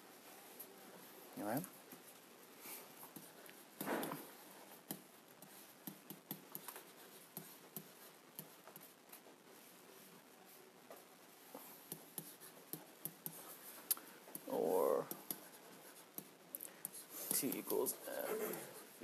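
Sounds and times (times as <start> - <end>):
marker writing on whiteboard: 3.0 - 10.3, 10.9 - 19.0.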